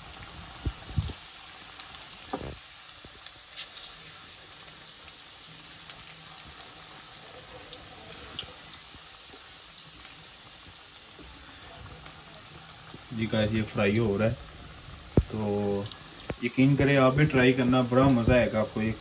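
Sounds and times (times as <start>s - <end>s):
deep-frying sizzling hiss: 0.0s - 19.0s
oil popping and crackling: 0.0s - 19.0s.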